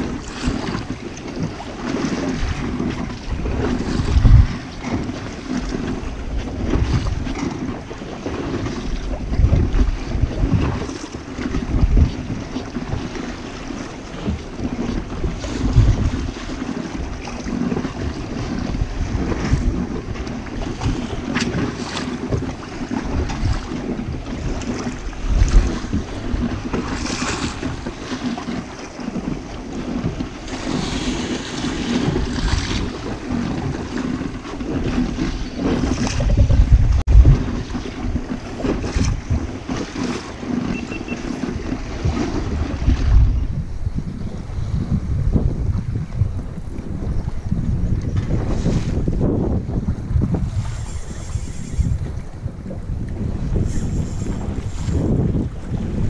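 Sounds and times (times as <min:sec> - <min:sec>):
waves splashing against hull: 0:00.0 - 0:56.0
wind buffeting microphone: 0:00.0 - 0:56.0.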